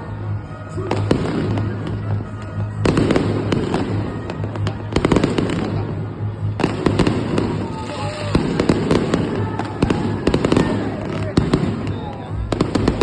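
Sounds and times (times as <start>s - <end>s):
fireworks cracking and banging: 0.8s - 13.0s.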